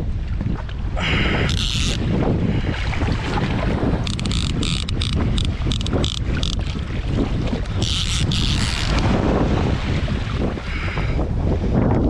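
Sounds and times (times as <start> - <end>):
water rushing and splashing: 0.0 - 11.4
wind buffeting microphone: 0.0 - 12.0.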